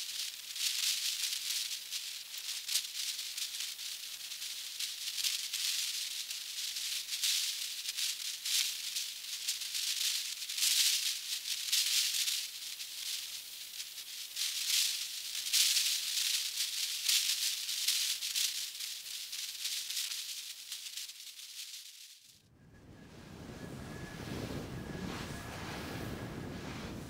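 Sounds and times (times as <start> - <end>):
shaker-like rattling hiss: 0.0 - 27.0.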